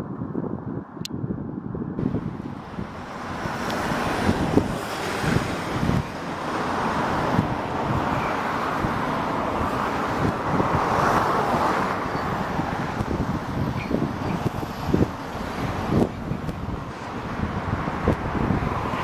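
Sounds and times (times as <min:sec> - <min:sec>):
wind buffeting microphone: 0:00.0 - 0:19.0
road traffic hiss: 0:02.0 - 0:19.0
vehicle passing: 0:02.0 - 0:19.0.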